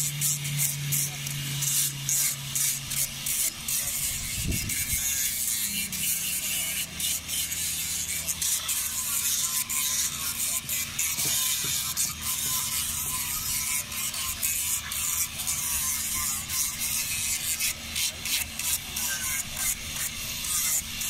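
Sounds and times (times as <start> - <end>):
power sander on wood: 0.0 - 21.0.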